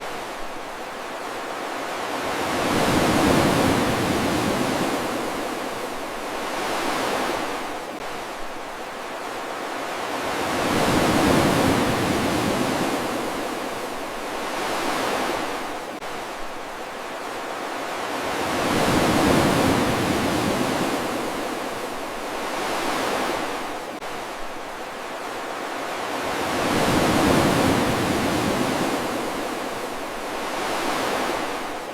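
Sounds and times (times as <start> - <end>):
ocean waves surging: 0.0 - 31.9.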